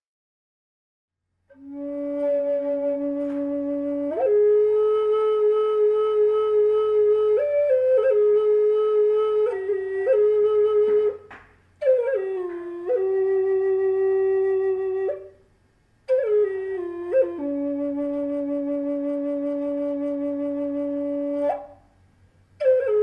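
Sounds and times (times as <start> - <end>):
solo flute long notes: 1.5 - 15.4, 16.0 - 23.0.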